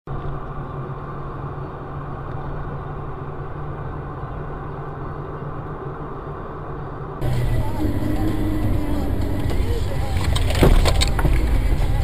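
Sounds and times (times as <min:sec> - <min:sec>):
car engine and road noise: 0:00.1 - 0:12.0.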